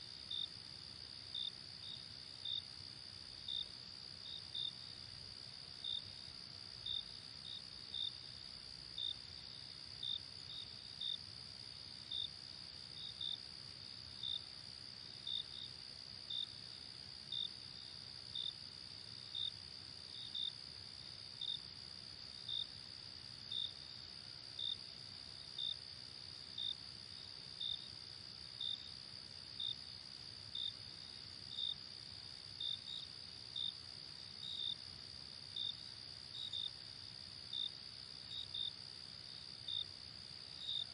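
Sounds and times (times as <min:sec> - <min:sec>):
cricket chirp: 0:00.0 - 0:40.9.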